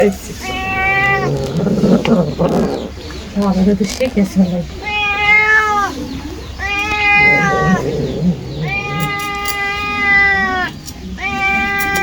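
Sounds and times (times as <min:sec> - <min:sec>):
cat meowing: 0:00.0 - 0:03.0, 0:04.8 - 0:12.0.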